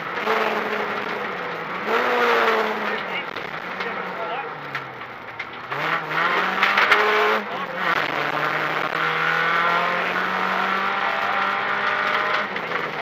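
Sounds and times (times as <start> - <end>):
car engine accelerating hard: 0.0 - 13.0
road noise: 0.0 - 13.0.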